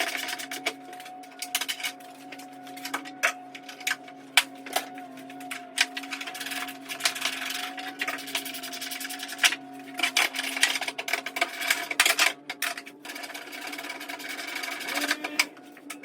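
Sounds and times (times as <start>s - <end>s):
power tool clicking and whirring: 0.0s - 16.0s.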